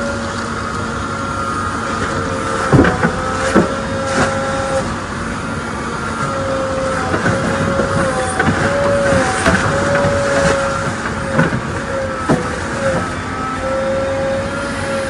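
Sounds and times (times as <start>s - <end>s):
diesel engine running: 0.0s - 15.0s
hydraulic whine: 0.0s - 15.0s.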